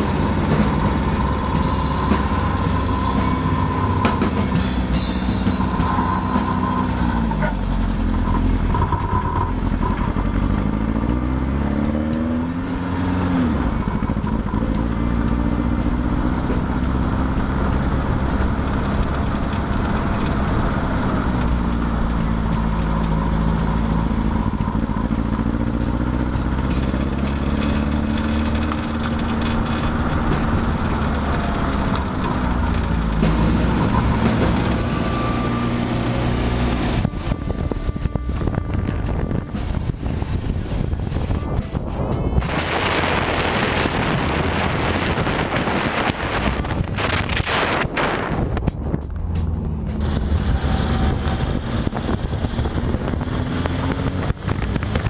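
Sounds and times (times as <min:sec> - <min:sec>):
car engine accelerating: 0:00.0 - 0:55.0
road noise: 0:00.0 - 0:55.0.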